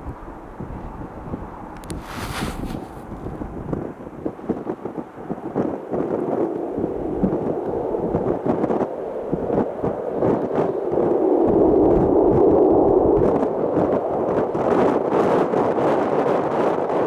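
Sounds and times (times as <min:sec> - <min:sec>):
fighter jet engine roar: 0:00.0 - 0:17.0
wind buffeting microphone: 0:00.0 - 0:17.0.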